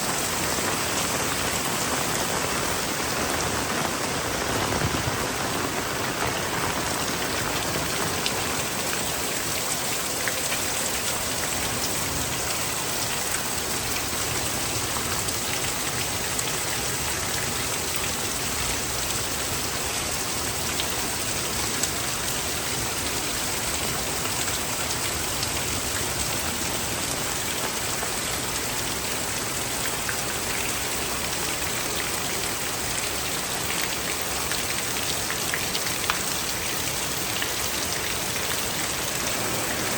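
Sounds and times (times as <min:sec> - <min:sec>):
heavy rain hissing: 0:00.0 - 0:39.9
raindrops striking surfaces: 0:00.0 - 0:39.9.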